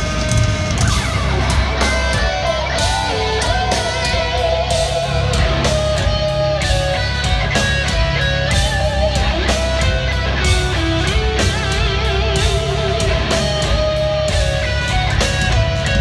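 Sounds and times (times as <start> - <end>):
electric guitar melody with vibrato: 0.0 - 16.0
metal band playing: 0.0 - 16.0.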